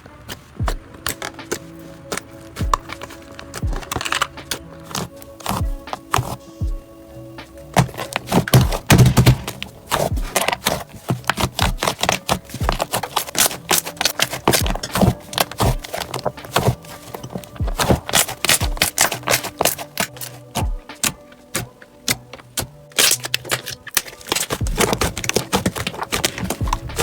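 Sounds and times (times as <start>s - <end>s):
slime crackling and popping: 0.0s - 6.7s, 7.7s - 27.0s.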